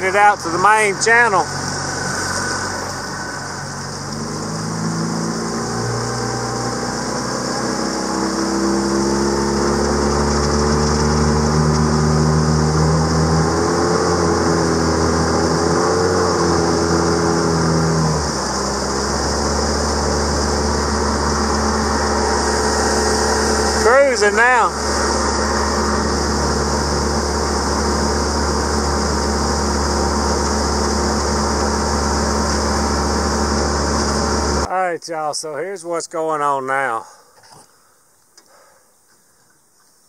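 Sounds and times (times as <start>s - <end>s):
outboard motor running: 0.0s - 34.7s.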